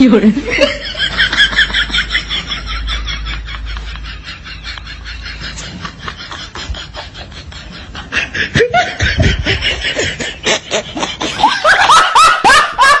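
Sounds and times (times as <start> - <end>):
bursts of laughter: 0.5 - 13.0.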